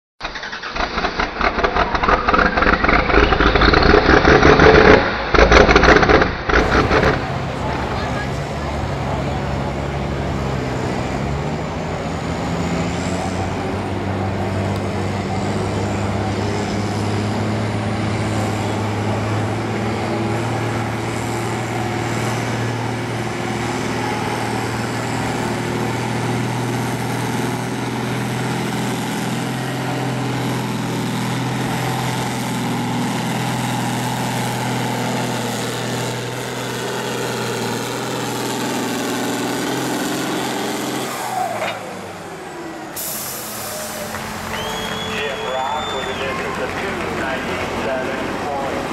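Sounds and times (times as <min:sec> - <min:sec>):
tractor diesel engine running hard: 0:00.2 - 0:48.9.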